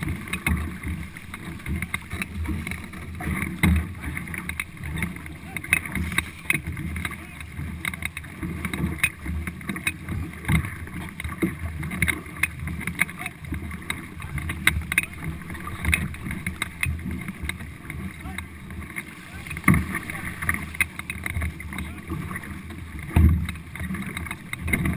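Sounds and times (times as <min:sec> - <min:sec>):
paddle strokes splashing: 0:00.0 - 0:24.9
water rushing along hull: 0:00.0 - 0:24.9.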